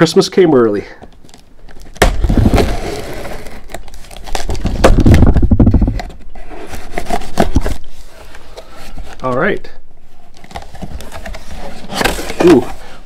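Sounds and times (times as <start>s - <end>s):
cardboard rustling: 1.2s - 13.0s.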